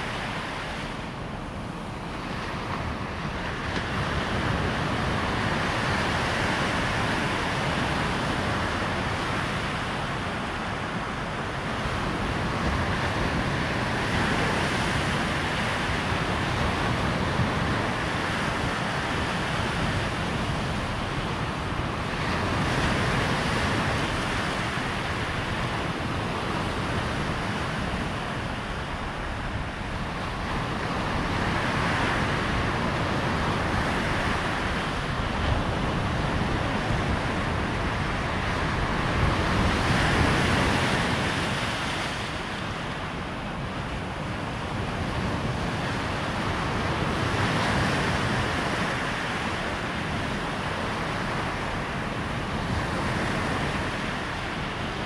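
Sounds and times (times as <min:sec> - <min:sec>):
surf breaking on shore: 0:00.0 - 0:55.0
wind rumbling on microphone: 0:00.0 - 0:55.0.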